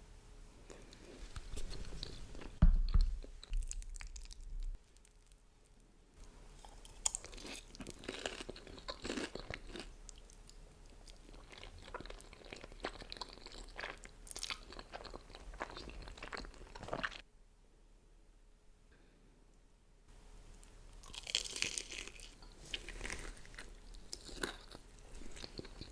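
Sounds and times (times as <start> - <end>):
chewing and crunching food: 0.7 - 17.2, 21.0 - 25.9.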